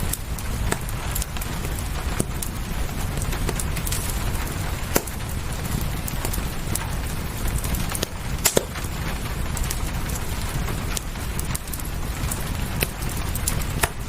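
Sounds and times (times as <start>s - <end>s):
low rumble: 0.0s - 14.0s
steady rain: 0.0s - 14.0s
wood fire crackling and popping: 0.0s - 14.0s.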